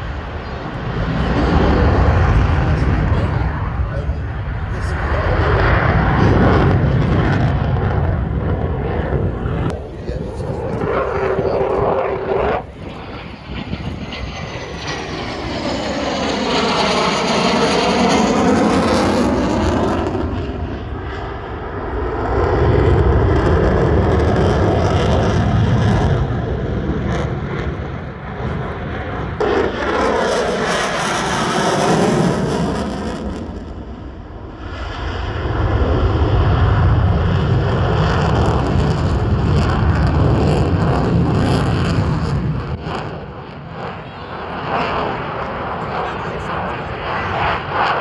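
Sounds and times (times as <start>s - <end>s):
deep rumble: 0.0s - 48.0s
fighter jet flying past: 0.0s - 48.0s.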